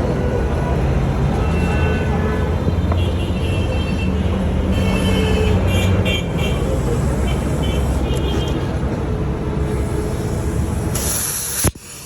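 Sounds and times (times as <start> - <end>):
motor traffic rumble: 0.0 - 12.0.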